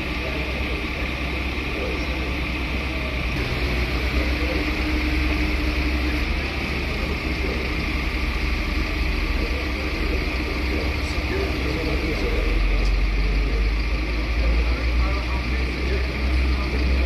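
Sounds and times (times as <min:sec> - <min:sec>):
tow truck engine running: 0:00.0 - 0:17.0.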